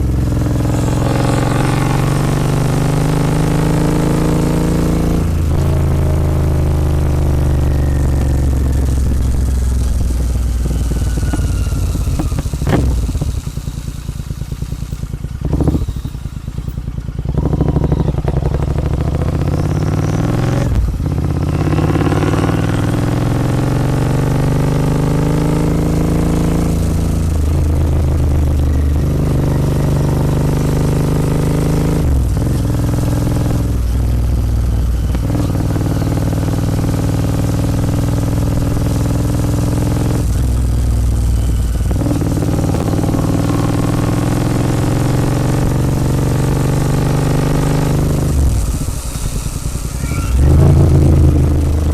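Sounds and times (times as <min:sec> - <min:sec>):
motorcycle exhaust accelerating: 0:00.0 - 0:51.9.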